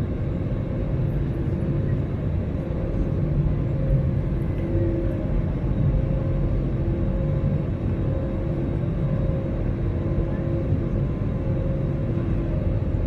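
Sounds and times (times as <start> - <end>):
deep rumble of jet engines: 0.0 - 13.0
faint wavering hum: 0.0 - 13.0.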